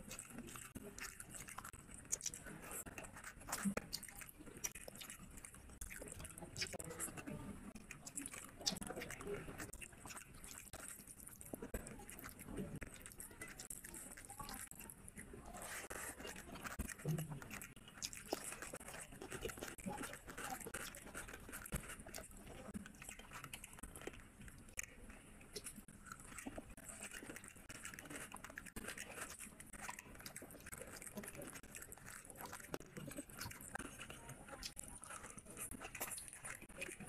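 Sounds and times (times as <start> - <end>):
chewing and wet mouth sounds: 0.0 - 37.0.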